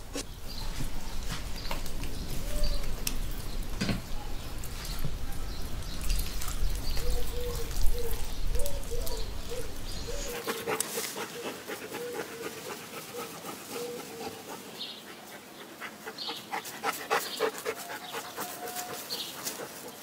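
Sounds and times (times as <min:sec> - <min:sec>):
animal calls and chirps: 0:02.2 - 0:20.0.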